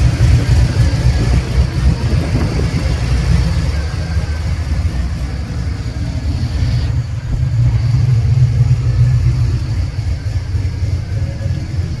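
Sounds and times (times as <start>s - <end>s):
vehicle engine exhaust rumble: 0.0s - 12.0s.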